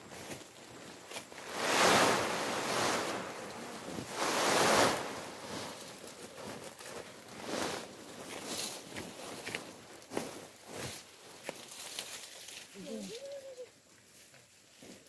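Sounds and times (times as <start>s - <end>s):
canvas tarp dragged over ground: 0.0s - 13.1s.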